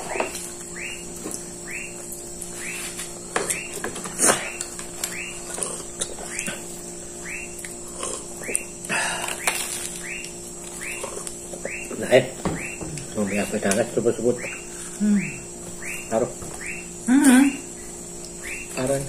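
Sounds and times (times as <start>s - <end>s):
animal chirping: 0.0s - 18.9s
faint steady hum: 0.0s - 19.0s.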